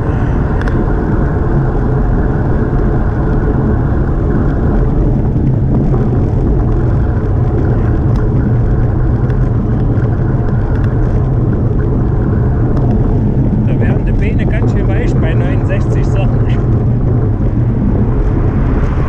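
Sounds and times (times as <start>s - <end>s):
tyre noise on asphalt: 0.0s - 19.0s
wind rushing over microphone: 0.0s - 19.0s.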